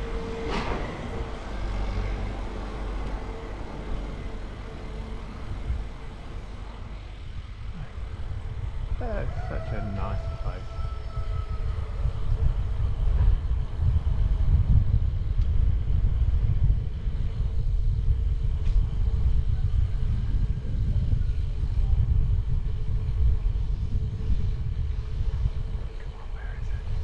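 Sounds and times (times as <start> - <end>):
wind rumbling over microphone: 0.0 - 27.0.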